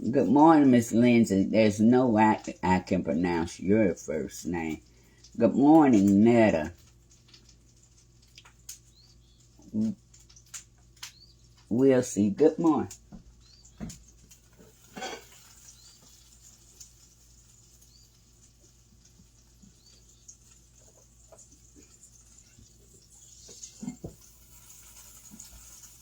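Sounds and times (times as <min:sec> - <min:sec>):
low steady hum: 0:00.0 - 0:24.6.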